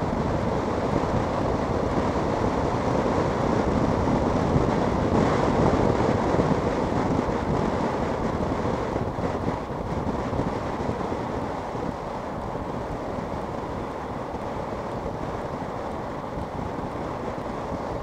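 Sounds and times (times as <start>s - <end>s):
road noise: 0.0s - 18.0s
wind rush on microphone: 0.0s - 18.0s.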